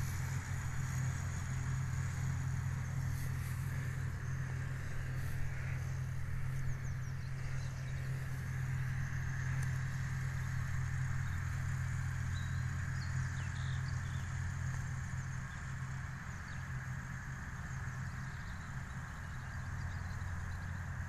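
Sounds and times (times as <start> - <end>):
distant tractor and baler drone: 0.0 - 21.0.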